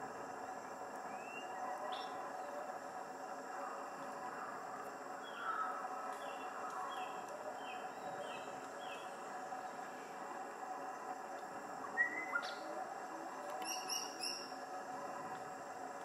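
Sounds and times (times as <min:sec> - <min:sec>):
natural background hum: 0:00.0 - 0:16.0.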